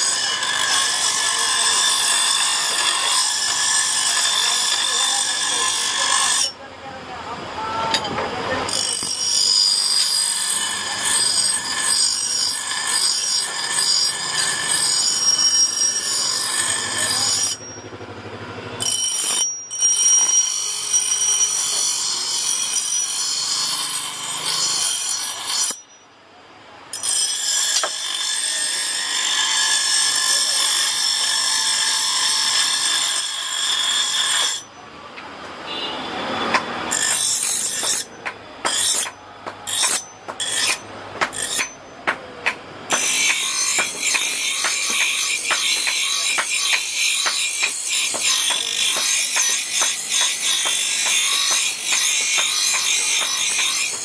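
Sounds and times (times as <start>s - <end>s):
blade on bench grinder screeching: 0.0s - 6.6s, 7.9s - 26.0s, 26.9s - 34.8s, 35.7s - 54.0s.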